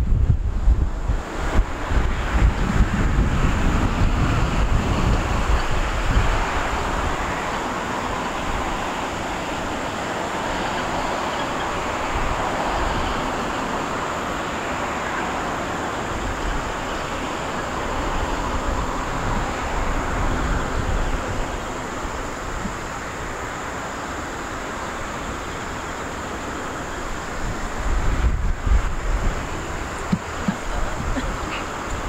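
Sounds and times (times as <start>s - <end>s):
jet engine noise: 0.0s - 32.0s
wind rumbling on microphone: 0.0s - 32.0s.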